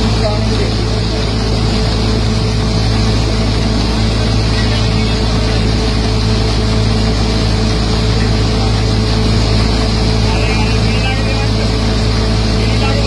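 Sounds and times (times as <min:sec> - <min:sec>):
combine harvester engine and machinery: 0:00.0 - 0:13.0.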